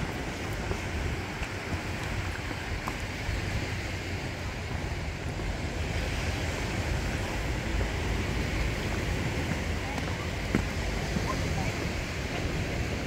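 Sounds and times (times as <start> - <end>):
small waves washing onto beach: 0.0 - 13.0
wind rumbling on microphone: 0.0 - 13.0.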